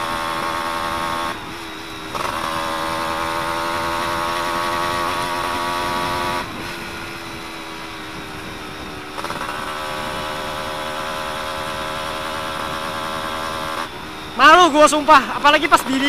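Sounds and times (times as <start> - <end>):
loud two-stroke engine running: 0.0 - 16.0.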